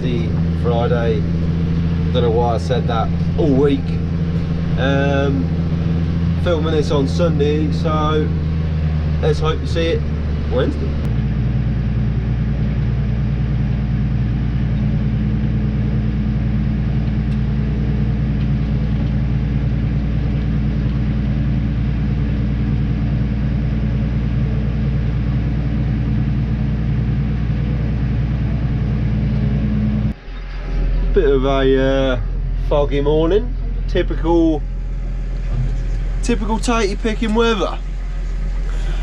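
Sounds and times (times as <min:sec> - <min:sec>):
tractor engine droning: 0:00.0 - 0:39.0.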